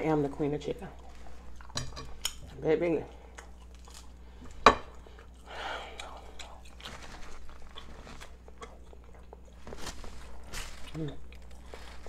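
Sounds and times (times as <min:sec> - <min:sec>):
meat tearing with wet clicks: 0:00.8 - 0:11.8.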